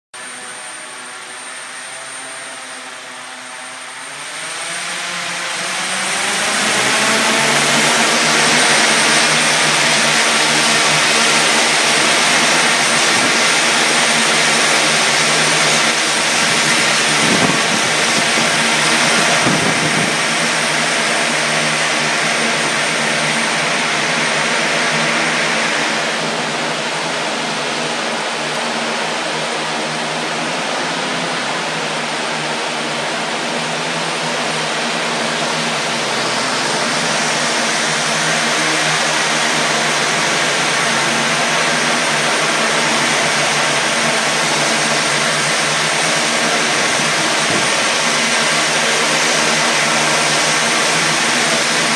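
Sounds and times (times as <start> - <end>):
propellers whirring drone: 0.1 - 51.9.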